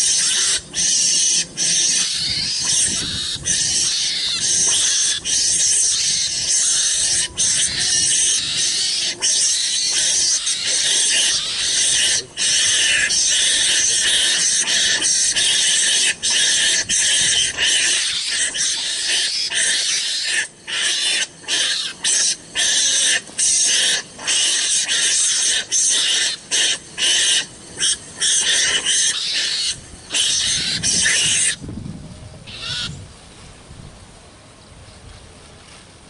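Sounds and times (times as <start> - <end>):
harsh animal calls: 0.0 - 31.6, 32.4 - 33.0.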